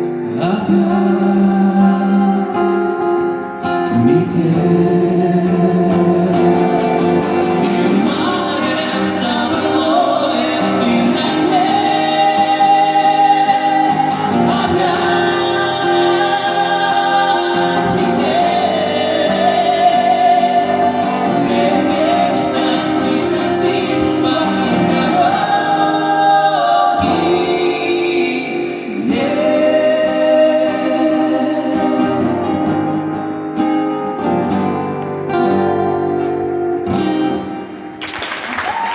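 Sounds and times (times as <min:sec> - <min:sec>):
song with long held notes: 0:00.0 - 0:38.0.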